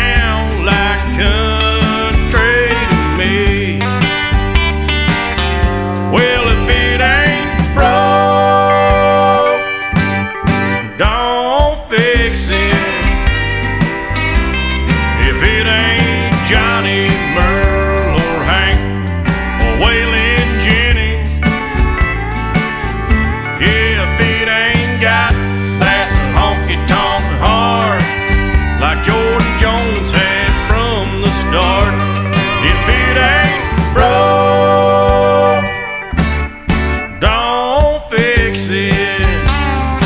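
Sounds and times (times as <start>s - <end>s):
country guitars sliding notes: 0.0s - 40.0s
steady drum beat: 0.0s - 40.0s.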